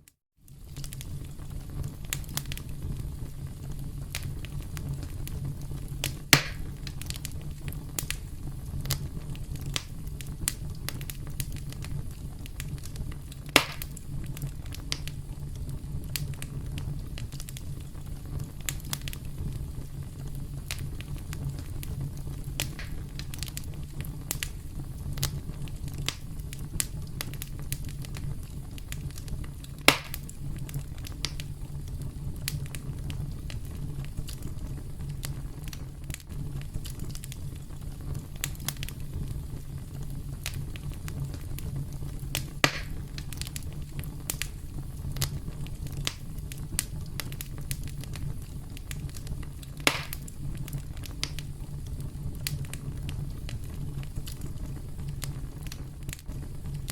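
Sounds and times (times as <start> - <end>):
campfire crackling: 0.4 - 56.9.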